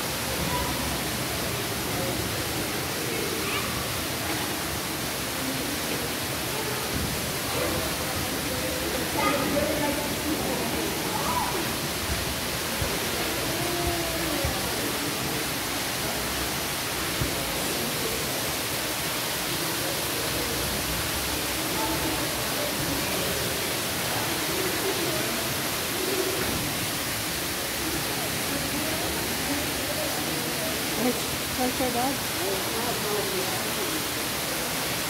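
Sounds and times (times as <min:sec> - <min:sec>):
waterfall splashing down rocks: 0:00.0 - 0:35.0
voices murmuring: 0:00.1 - 0:16.6, 0:19.6 - 0:34.2.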